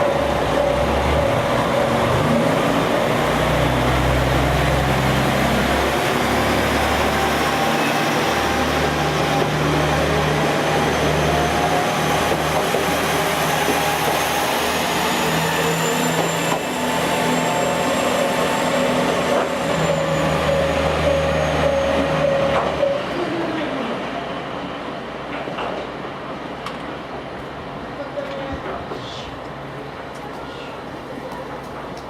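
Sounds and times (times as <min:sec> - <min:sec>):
diesel railcar engine humming: 0:00.0 - 0:32.0.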